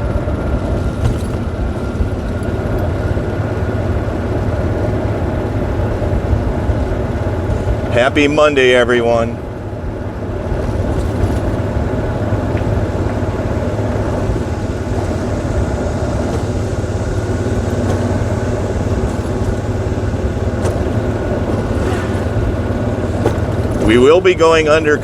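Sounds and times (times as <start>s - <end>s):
golf cart motor drone: 0.0s - 25.0s.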